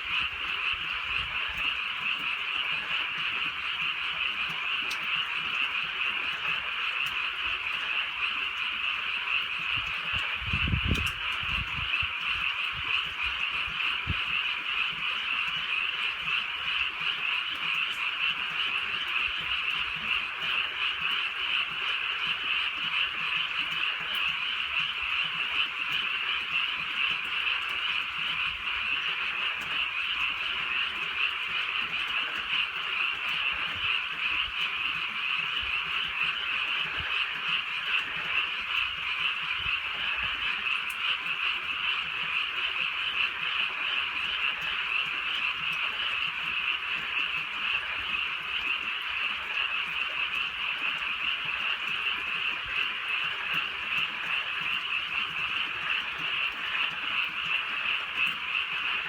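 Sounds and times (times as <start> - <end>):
chorus of frogs croaking: 0.0 - 59.0.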